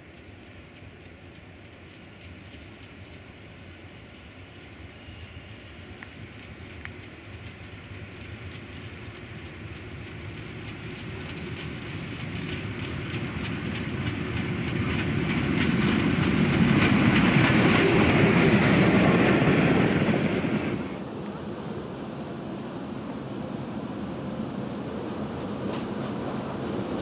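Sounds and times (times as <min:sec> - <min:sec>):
steam train passing: 0:00.0 - 0:27.0.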